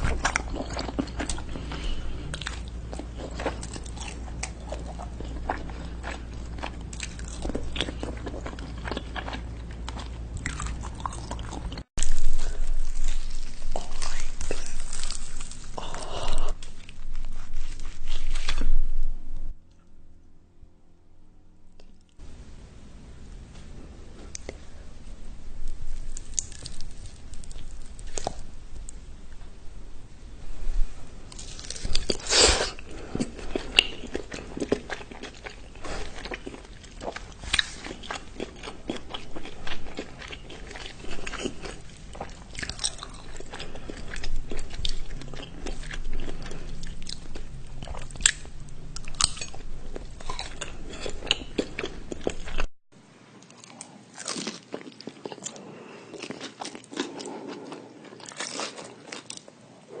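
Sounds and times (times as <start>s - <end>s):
person chewing crunchy food: 0.0s - 18.8s, 25.6s - 28.9s, 31.3s - 52.7s, 53.4s - 59.6s.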